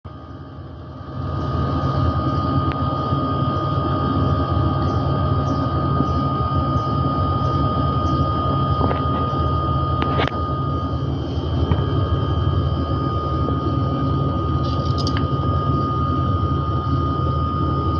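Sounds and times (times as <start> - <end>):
compressor and fan drone: 0.1 - 17.9
thin constant whine: 0.1 - 17.9.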